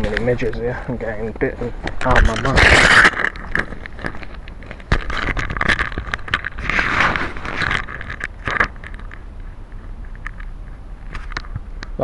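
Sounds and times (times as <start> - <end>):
rustling against microphone: 0.0 - 12.0.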